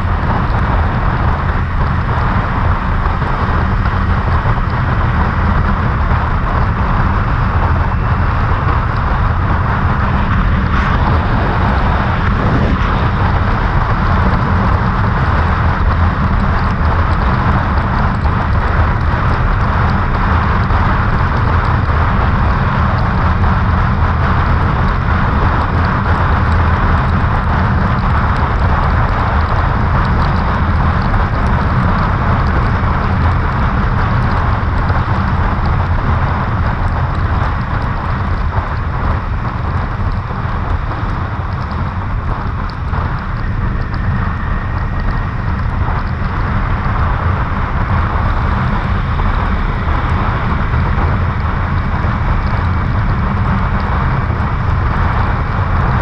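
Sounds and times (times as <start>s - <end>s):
motorcycle engine cruising: 0.0s - 56.0s
wind rush over microphone: 0.0s - 56.0s.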